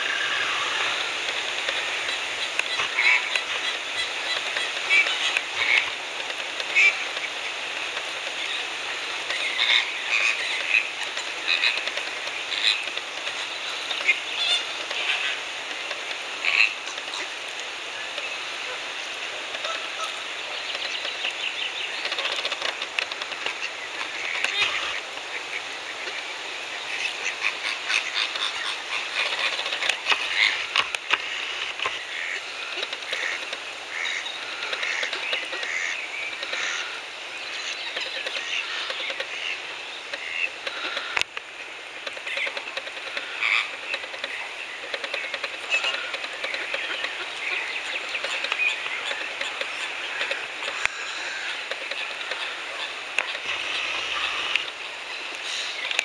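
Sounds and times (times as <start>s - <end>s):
flamingos calling: 0.0s - 56.0s.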